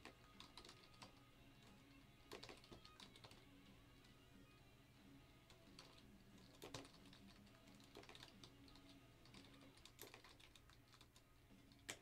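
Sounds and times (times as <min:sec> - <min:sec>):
keyboard typing: 0:00.0 - 0:04.2, 0:05.5 - 0:12.0.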